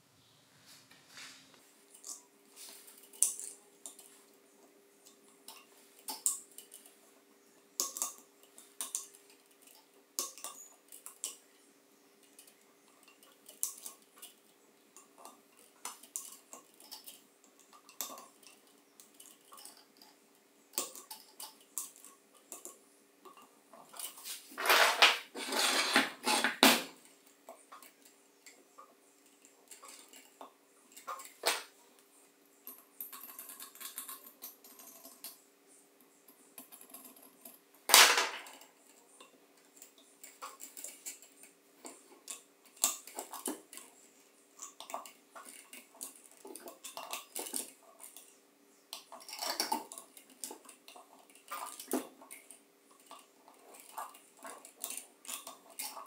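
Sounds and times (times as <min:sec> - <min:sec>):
small metallic clicks and taps: 0:01.9 - 0:25.2, 0:26.2 - 0:35.4, 0:36.0 - 0:56.0.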